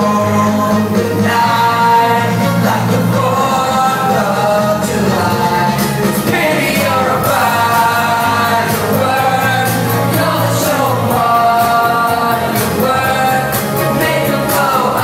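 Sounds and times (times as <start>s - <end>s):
live pop band playing: 0.0s - 15.0s
person singing lead vocals: 0.0s - 15.0s.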